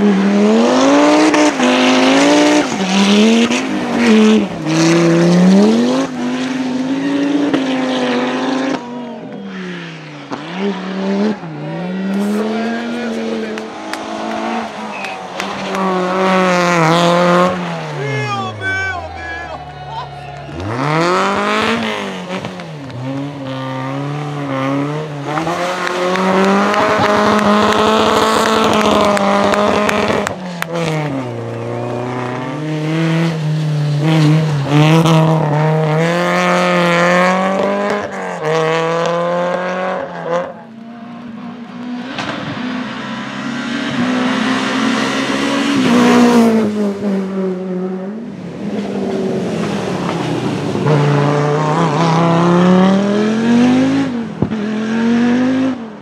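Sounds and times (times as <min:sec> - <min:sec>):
rally car speeding past: 0:00.0 - 0:18.8, 0:19.5 - 0:56.0
rally car engine revving: 0:00.0 - 0:56.0.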